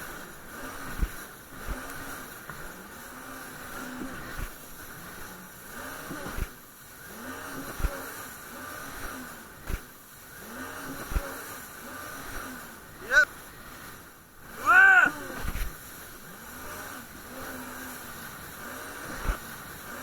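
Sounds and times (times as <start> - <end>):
jet ski engine: 0.0 - 20.0.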